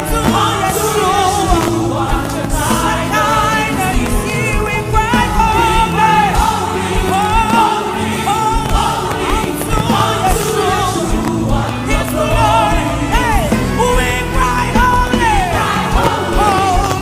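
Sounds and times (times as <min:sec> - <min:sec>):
band accompaniment: 0:00.0 - 0:17.0
voices singing with vibrato: 0:00.0 - 0:17.0.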